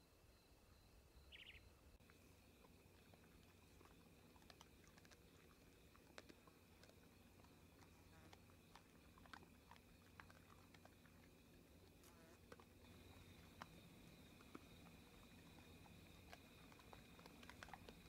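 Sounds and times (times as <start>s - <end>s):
deer crunching corn: 2.0s - 18.0s.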